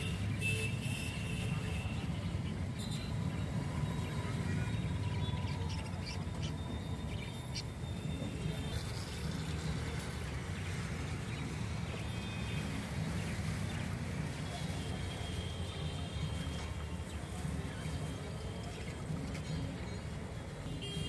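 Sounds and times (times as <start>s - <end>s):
caged birds chirping: 0.0s - 19.9s.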